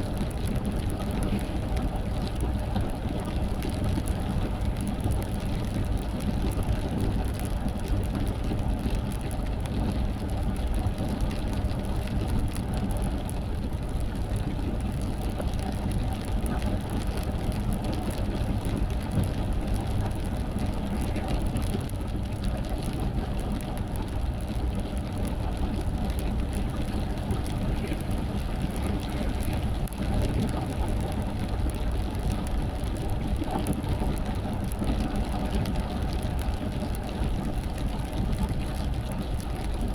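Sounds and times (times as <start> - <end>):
rain on a car: 0.0 - 39.9.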